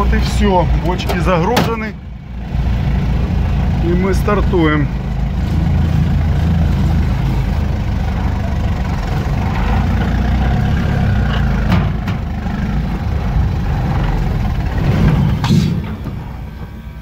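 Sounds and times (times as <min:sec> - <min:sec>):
vehicle engine low drone: 0:00.0 - 0:17.0.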